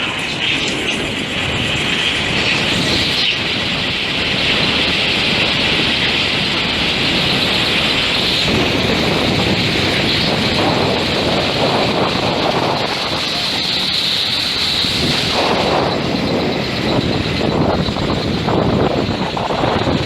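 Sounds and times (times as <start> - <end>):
heavy machinery running: 0.0 - 20.0.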